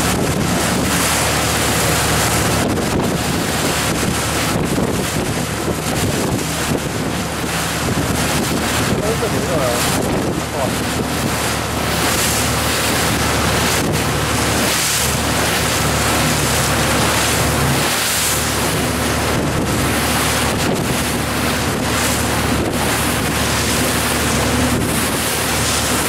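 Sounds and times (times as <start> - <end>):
speedboat engine: 0.0 - 26.0
waves splashing: 0.0 - 26.0
wind buffeting microphone: 0.0 - 26.0.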